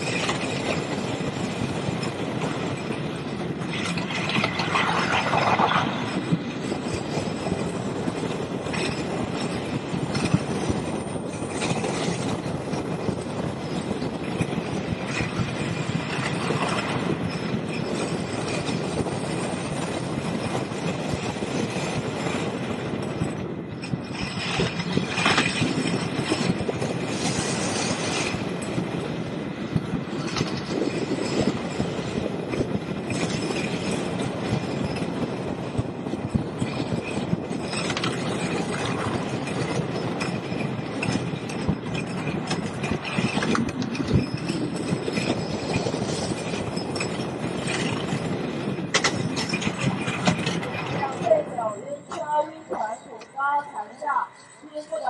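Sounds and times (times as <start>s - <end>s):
roller coaster rumbling on wooden track: 0.0s - 55.0s.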